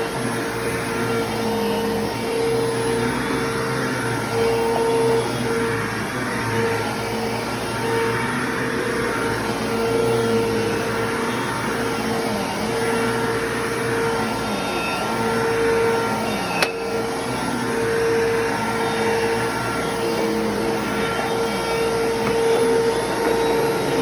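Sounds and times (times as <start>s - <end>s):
upright vacuum cleaner running: 0.0s - 24.0s.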